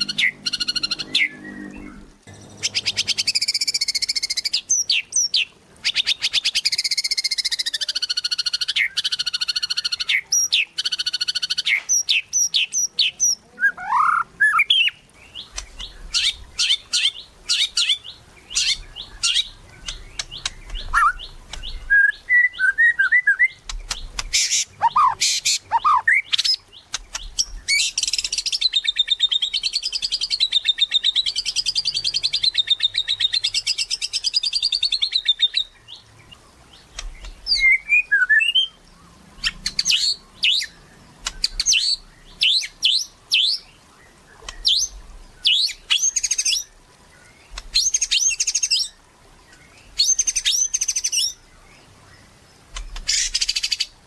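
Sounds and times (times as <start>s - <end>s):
songbird singing trills and clicks: 0.0s - 54.0s.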